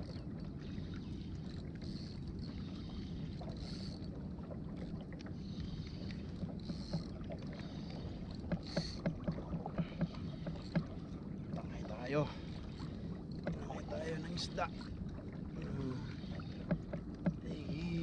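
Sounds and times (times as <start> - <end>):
low rumble of water and hull: 0.0 - 18.0.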